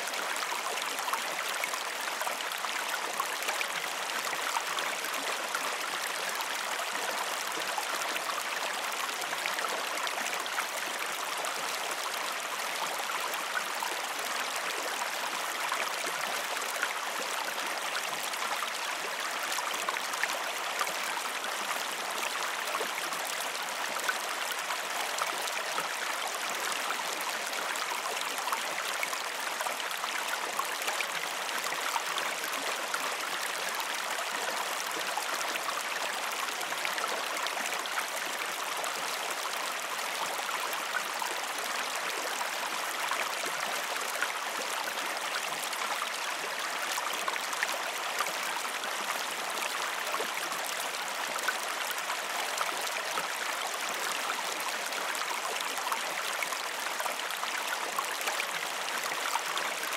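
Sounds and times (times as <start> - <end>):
creek water flowing over rocks: 0.0 - 59.9.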